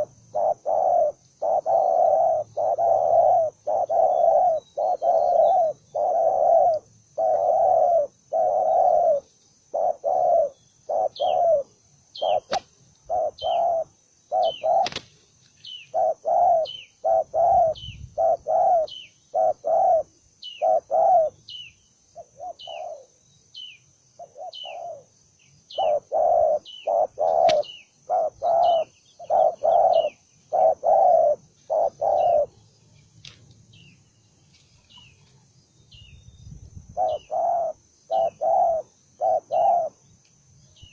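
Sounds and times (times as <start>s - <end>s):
dove cooing: 0.0s - 15.1s, 15.7s - 23.2s, 24.2s - 25.1s, 25.7s - 32.6s, 36.9s - 40.0s
small bird chirping: 0.0s - 40.9s.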